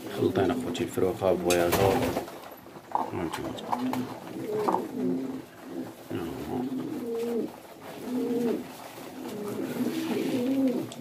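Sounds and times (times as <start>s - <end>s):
pigeons cooing: 0.0s - 1.4s, 2.9s - 11.0s.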